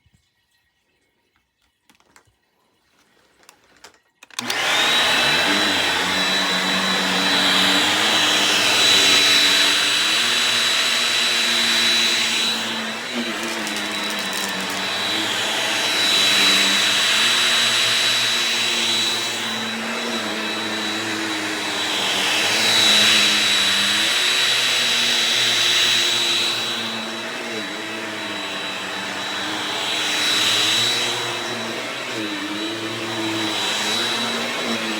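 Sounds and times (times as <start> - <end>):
stick vacuum motor whine: 3.8 - 34.9.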